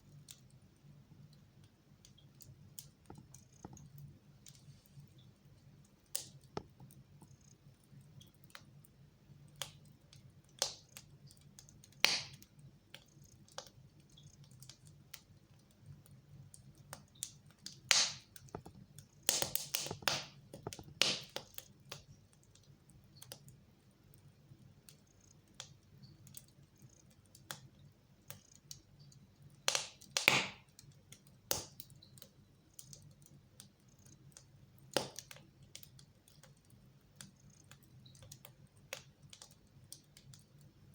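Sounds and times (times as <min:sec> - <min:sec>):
fire crackling in fireplace: 0:00.0 - 0:40.9.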